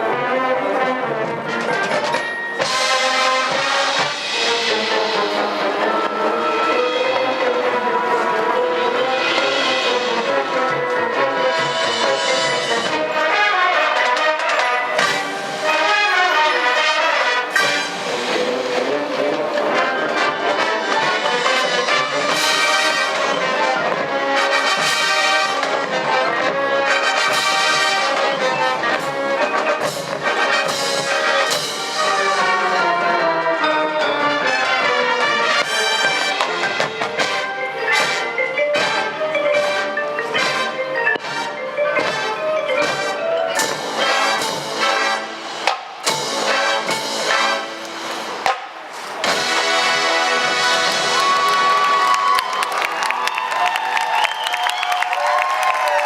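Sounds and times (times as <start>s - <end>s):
mallet percussion: 1.1s - 52.9s
brass section playing chords: 2.6s - 41.8s, 42.8s - 48.6s, 49.2s - 52.5s.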